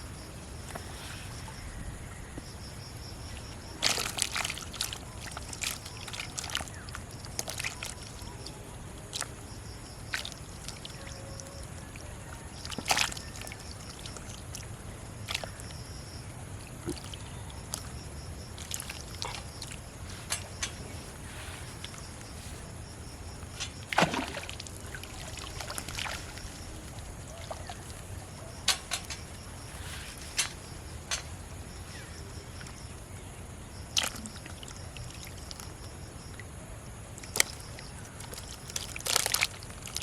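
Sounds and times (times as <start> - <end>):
water splashing and sloshing: 0.0 - 40.0.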